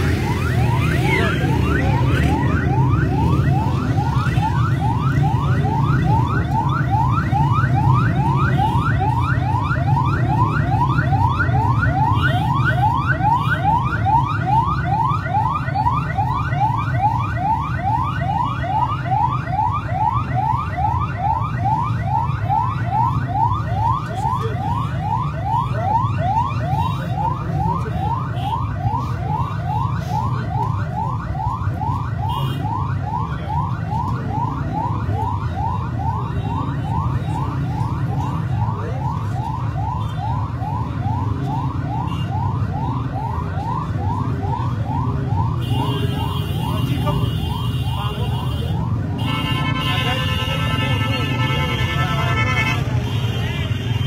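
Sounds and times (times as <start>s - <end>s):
ambulance siren yelping: 0.0s - 54.0s
crowd din: 0.0s - 54.0s.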